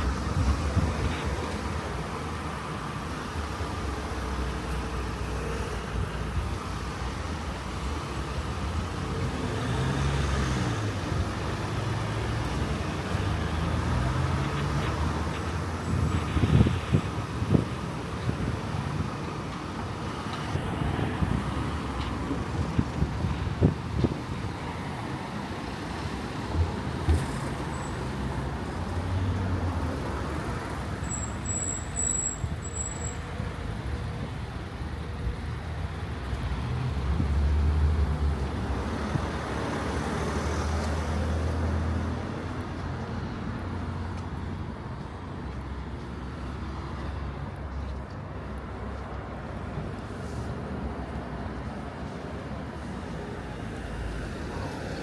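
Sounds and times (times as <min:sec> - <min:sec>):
traffic engine rumble: 0:00.0 - 0:55.0.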